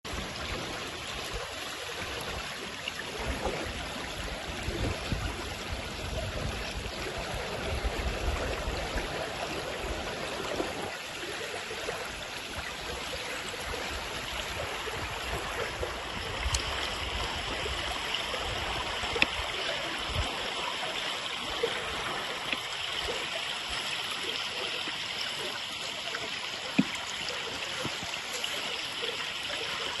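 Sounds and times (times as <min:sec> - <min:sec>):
stream flowing: 0:00.1 - 0:30.0.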